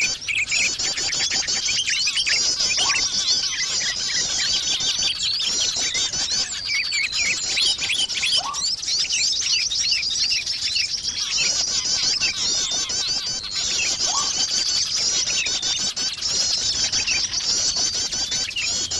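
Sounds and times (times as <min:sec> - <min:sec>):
songbirds chirping and trilling: 0:00.0 - 0:18.9.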